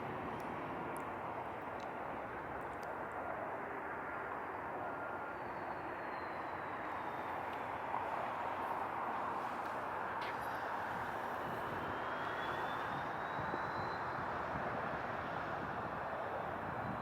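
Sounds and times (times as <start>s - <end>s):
steady outdoor rumble: 0.0s - 17.0s.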